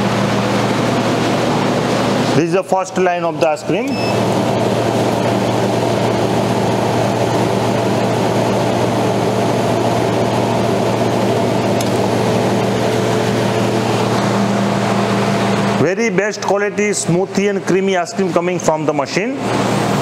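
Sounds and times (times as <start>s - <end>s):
ice cream machine humming: 0.0s - 20.0s.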